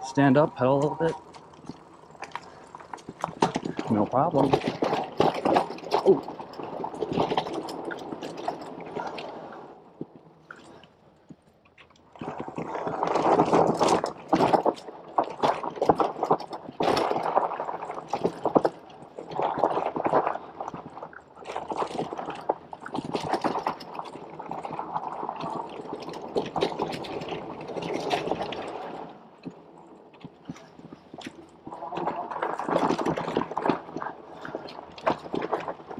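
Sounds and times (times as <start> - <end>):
bike clicks and rattles: 0.0 - 35.9
bike tyres crunching over dirt: 0.0 - 35.9.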